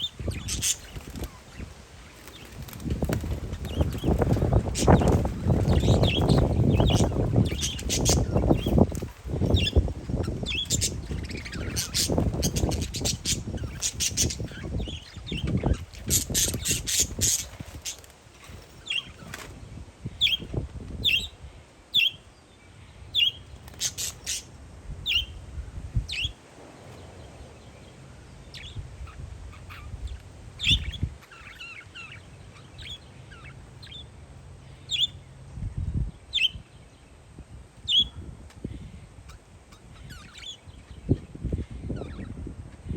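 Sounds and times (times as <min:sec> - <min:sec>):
parakeets chirping: 0:00.0 - 0:19.5, 0:20.1 - 0:22.3, 0:23.1 - 0:25.4, 0:26.0 - 0:35.4, 0:36.3 - 0:36.7, 0:37.9 - 0:42.9
wind buffeting microphone: 0:00.0 - 0:22.1, 0:24.1 - 0:34.0, 0:34.9 - 0:42.9.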